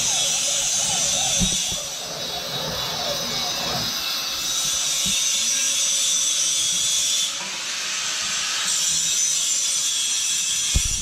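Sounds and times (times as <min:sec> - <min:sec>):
steel cutting hiss: 0:00.0 - 0:11.0.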